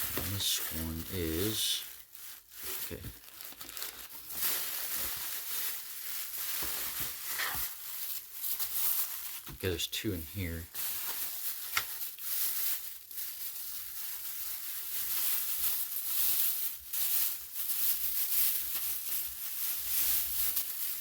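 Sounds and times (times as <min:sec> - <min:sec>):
wrapping rustling and crinkling: 0:00.0 - 0:21.0.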